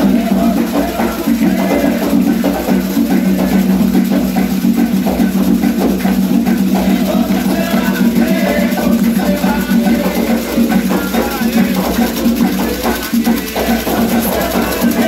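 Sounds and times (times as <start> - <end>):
drumming and rattling percussion: 0.0 - 15.0
voices chanting: 0.0 - 15.0.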